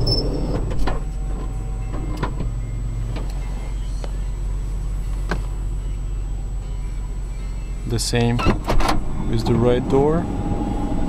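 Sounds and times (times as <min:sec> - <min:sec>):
low motor hum: 0:00.0 - 0:11.0
steady low hum: 0:00.0 - 0:11.0.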